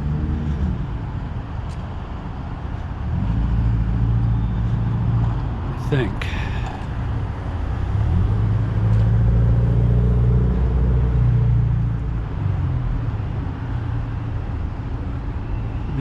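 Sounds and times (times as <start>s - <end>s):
passing vehicle engine rumble: 0.0s - 14.6s.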